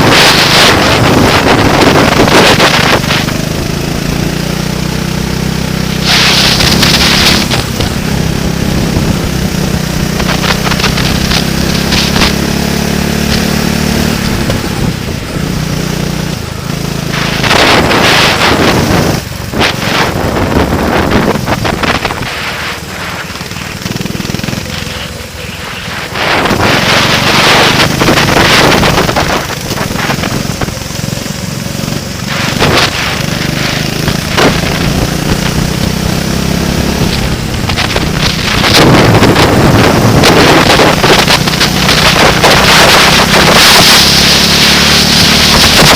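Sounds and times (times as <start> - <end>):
vehicle engine running: 0.0 - 45.9
wind gusts on microphone: 0.0 - 45.9.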